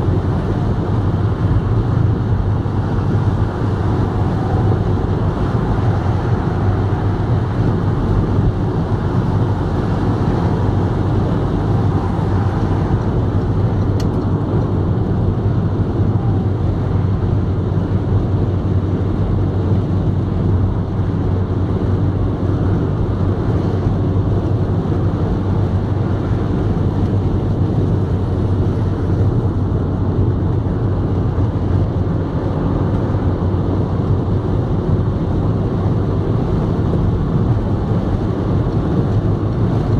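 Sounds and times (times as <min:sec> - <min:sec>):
car road and engine noise: 0:00.0 - 0:39.9
constant low hum: 0:00.0 - 0:39.9.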